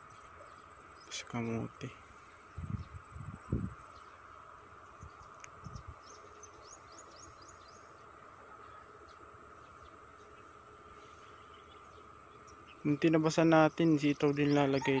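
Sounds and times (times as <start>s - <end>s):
insect trill: 0.0s - 15.0s.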